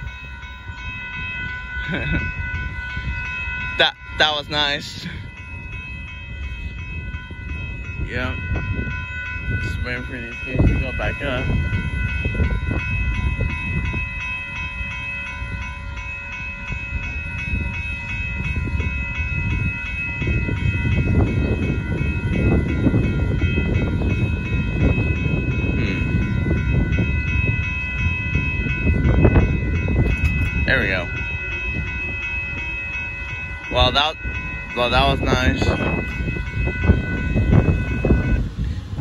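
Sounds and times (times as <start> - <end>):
crossing warning bell ringing: 0.0 - 39.0.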